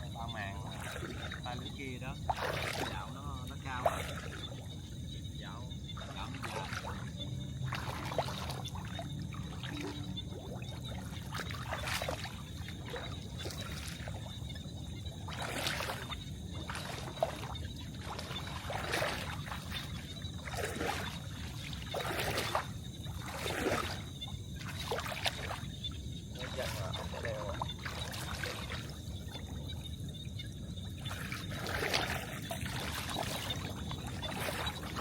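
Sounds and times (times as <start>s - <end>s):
water splashing and trickling: 0.0s - 35.0s.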